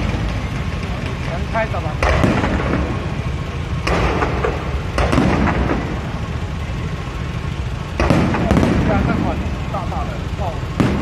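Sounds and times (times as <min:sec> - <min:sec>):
fireworks bangs and crackling: 0:00.0 - 0:11.0
low rumble of explosions: 0:00.0 - 0:11.0.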